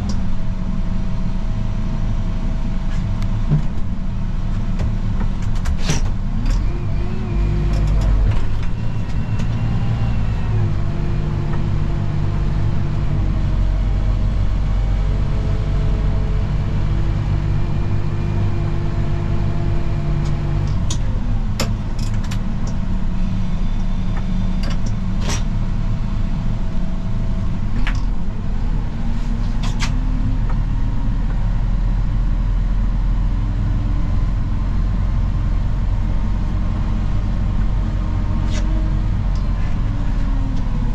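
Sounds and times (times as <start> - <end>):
snow plow engine running: 0.0 - 40.9.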